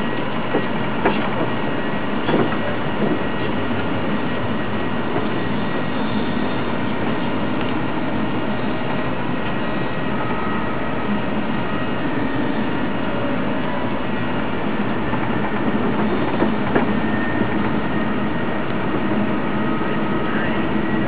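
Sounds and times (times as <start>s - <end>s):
train running noise: 0.0s - 21.0s.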